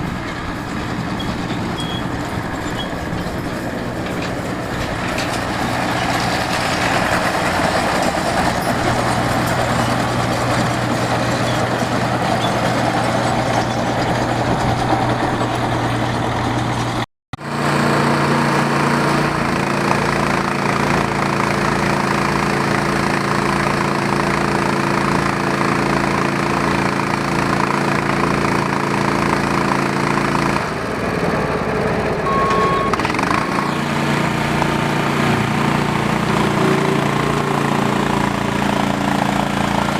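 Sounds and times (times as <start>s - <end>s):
baler engine running: 0.0s - 39.9s.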